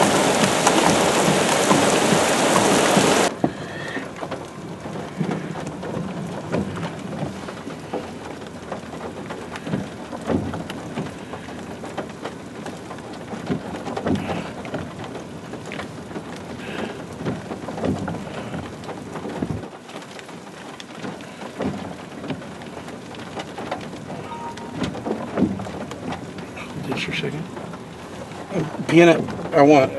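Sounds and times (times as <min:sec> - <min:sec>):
rain falling steadily: 0:00.0 - 0:29.9.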